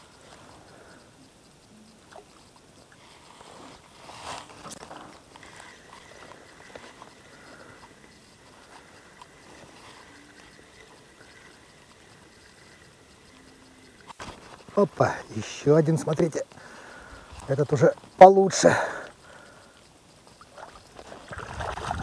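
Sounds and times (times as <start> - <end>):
fishing reel clicking and rustling: 0.0 - 22.0.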